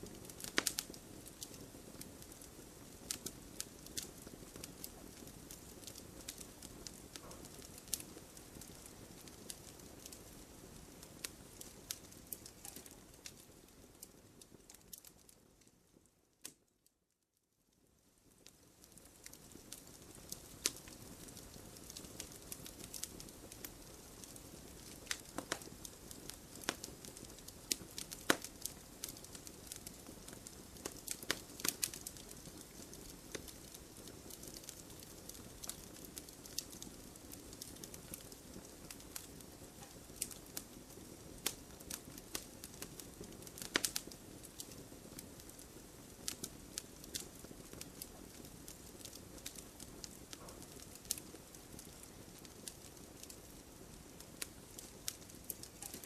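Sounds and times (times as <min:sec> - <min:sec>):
campfire crackling and popping: 0:00.0 - 0:16.7, 0:18.2 - 0:56.0
low fire hiss: 0:00.0 - 0:56.0.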